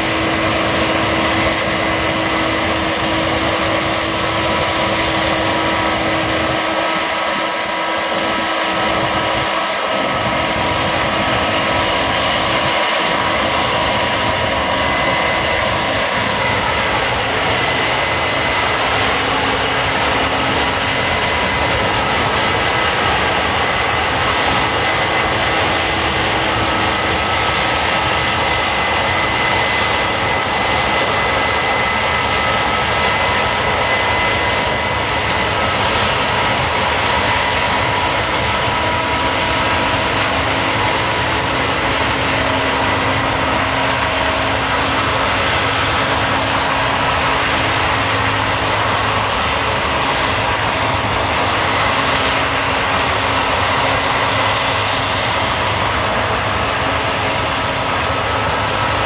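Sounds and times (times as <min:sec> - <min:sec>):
combine harvester running: 0:00.0 - 0:59.0
steady whining tones: 0:00.0 - 0:59.0.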